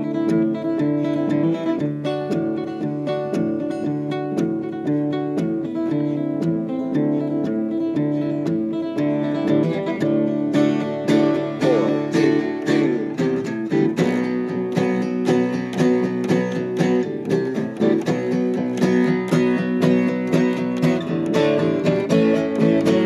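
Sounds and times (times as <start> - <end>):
acoustic guitars strumming: 0.0 - 23.0.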